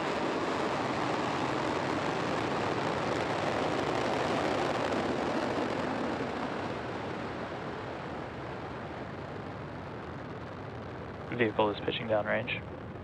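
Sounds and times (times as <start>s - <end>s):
rocket engines roaring: 0.0s - 13.0s.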